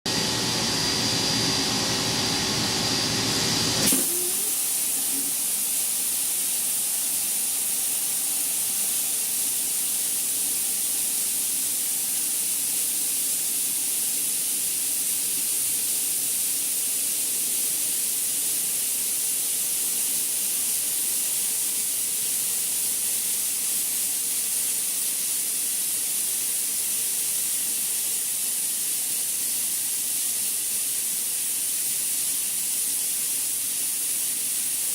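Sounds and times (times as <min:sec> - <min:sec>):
high hiss of air jet: 0:02.9 - 0:34.9.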